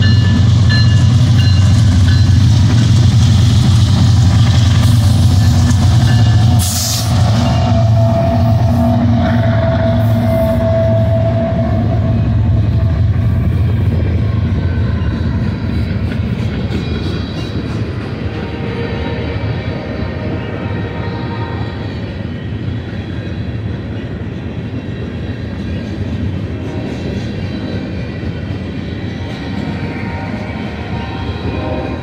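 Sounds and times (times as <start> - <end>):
diesel locomotive engines droning: 0.0 - 32.0
freight cars rolling on rails: 0.0 - 32.0.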